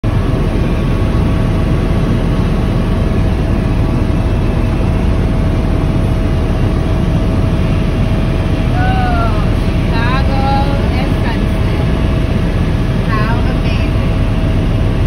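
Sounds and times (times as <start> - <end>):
helicopter engine and rotor drone: 0.0 - 15.0
thin steady whine: 0.1 - 15.0.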